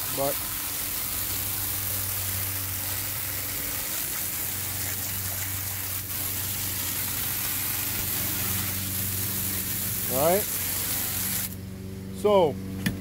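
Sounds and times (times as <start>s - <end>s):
hose water spraying on boat deck: 0.0s - 11.6s.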